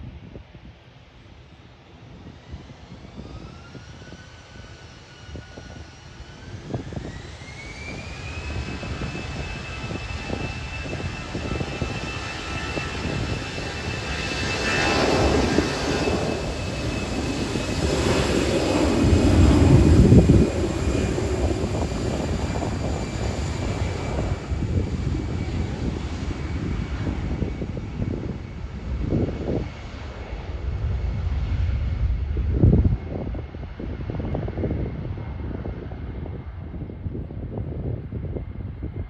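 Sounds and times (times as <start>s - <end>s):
jet airliner flying past: 0.0s - 39.0s.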